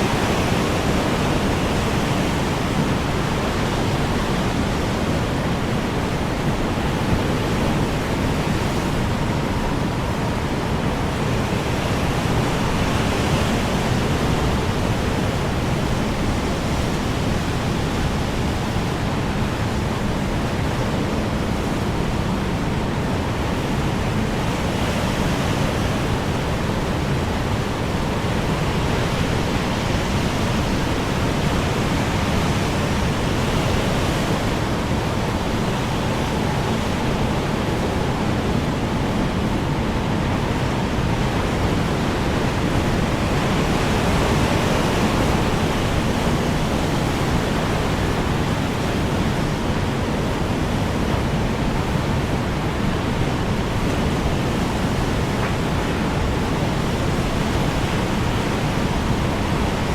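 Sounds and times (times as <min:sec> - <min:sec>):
strong wind blowing: 0:00.0 - 0:59.9.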